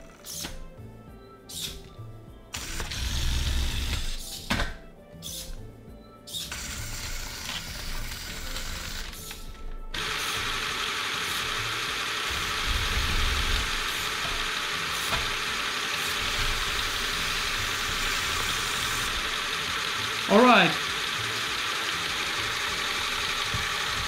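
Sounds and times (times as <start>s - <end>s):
toy motors and gears running: 0.0s - 0.8s, 1.5s - 5.6s, 6.3s - 24.0s
small air compressor running: 2.5s - 4.5s, 6.4s - 24.0s.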